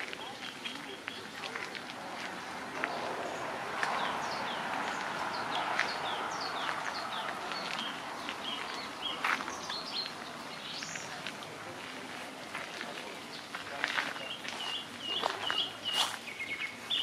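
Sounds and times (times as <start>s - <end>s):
songbirds chirping: 0.0s - 17.0s
steady outdoor hiss: 0.0s - 17.0s.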